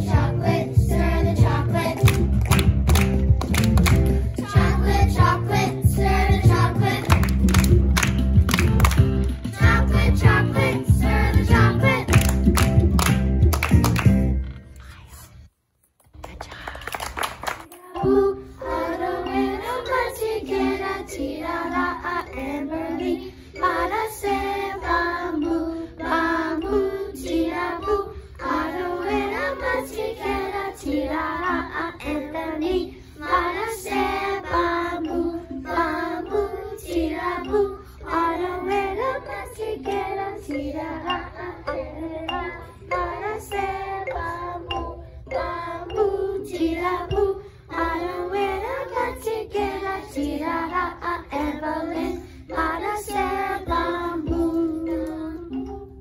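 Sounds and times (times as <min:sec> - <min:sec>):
girls singing into a microphone: 0:00.0 - 0:02.3, 0:04.4 - 0:07.3, 0:09.6 - 0:12.2, 0:17.7 - 0:56.0.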